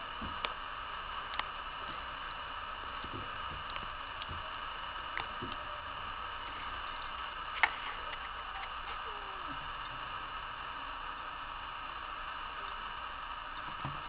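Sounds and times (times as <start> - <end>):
steady hiss: 0.0 - 14.0
faint ticks and clicks: 0.1 - 14.0.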